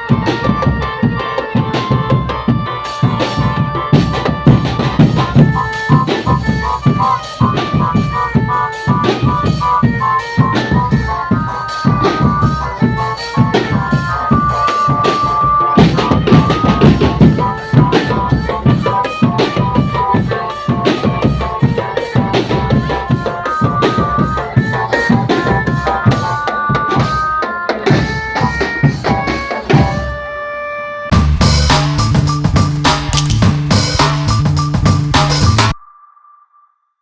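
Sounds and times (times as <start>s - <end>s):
snare and bass drum beats: 0.0s - 30.2s, 31.1s - 35.8s
bright marching melody: 0.0s - 30.5s, 31.1s - 35.8s.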